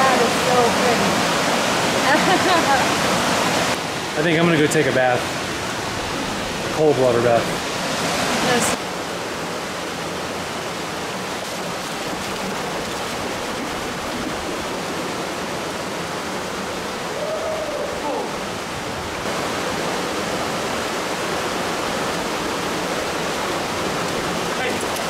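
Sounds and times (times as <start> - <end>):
waterfall rushing into pool: 0.0 - 25.0.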